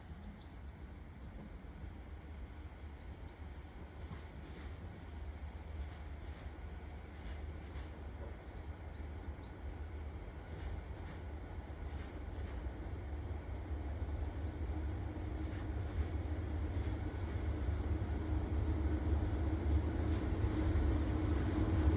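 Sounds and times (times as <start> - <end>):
distant train rumble: 0.0 - 21.9.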